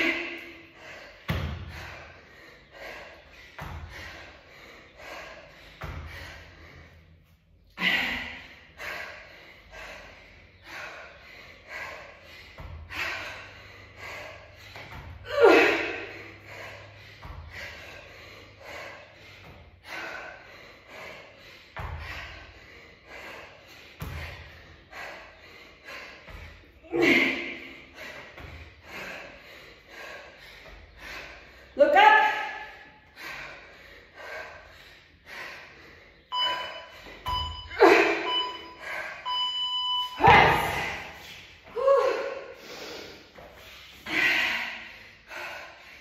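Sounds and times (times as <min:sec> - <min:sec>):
person breathing hard: 0:00.0 - 0:31.8, 0:32.5 - 0:39.5, 0:40.8 - 0:46.0.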